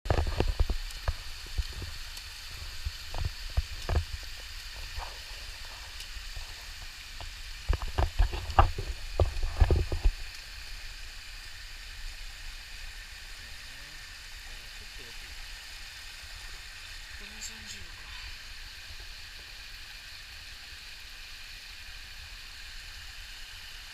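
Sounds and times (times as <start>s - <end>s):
stream water rushing: 0.1s - 23.9s.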